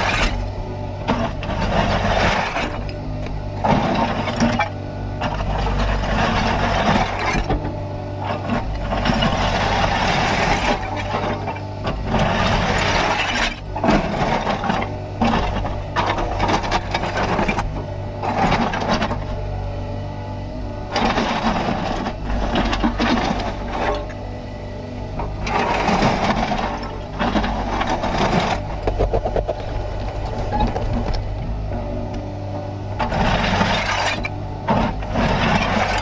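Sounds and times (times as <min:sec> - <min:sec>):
excavator diesel engine running: 0:00.0 - 0:36.0
hydraulics working: 0:00.0 - 0:36.0.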